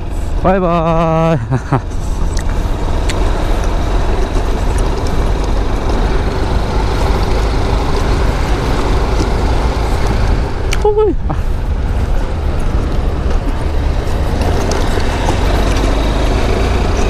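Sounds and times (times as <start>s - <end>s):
motorcycle engine running: 0.0s - 17.0s
wind rushing on microphone: 0.0s - 17.0s.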